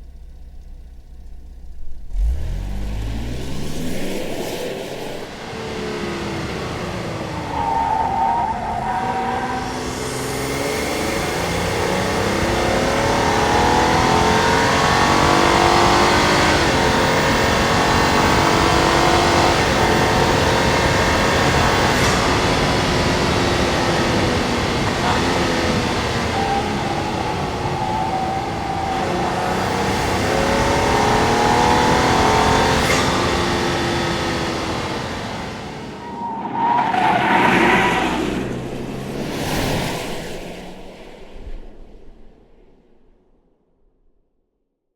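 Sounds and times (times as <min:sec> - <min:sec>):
car engine revving: 0:00.0 - 0:42.1.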